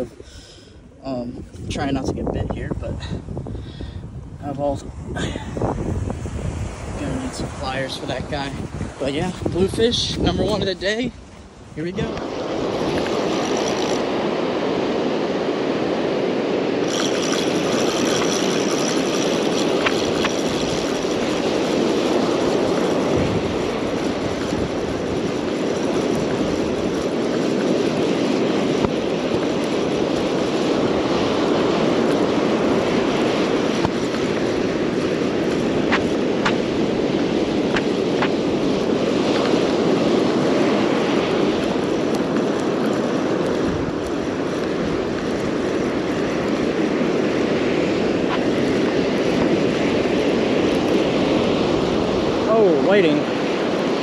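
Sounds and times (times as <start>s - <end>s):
ocean surf roaring: 0.0s - 54.0s
wind: 0.0s - 54.0s.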